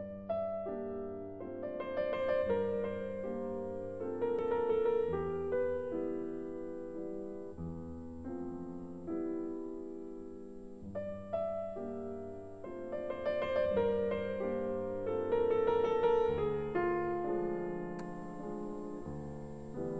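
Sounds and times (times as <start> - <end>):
slow solo piano: 0.0 - 19.9.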